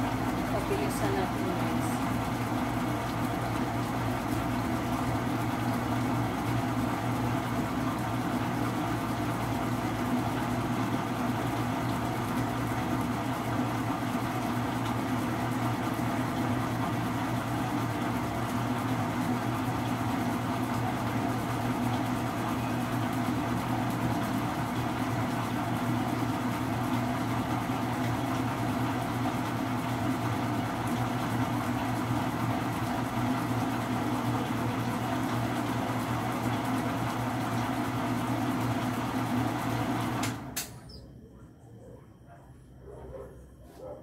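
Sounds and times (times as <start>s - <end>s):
stand mixer motor humming: 0.0s - 40.7s.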